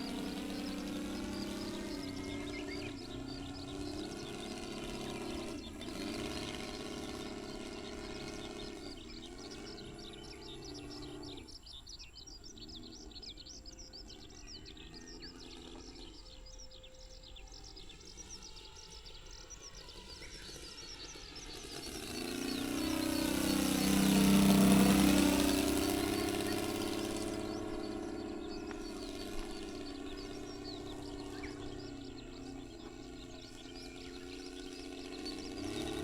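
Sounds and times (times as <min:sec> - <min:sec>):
birds chirping: 0:00.0 - 0:36.0
model airplane engine drone: 0:00.0 - 0:36.0.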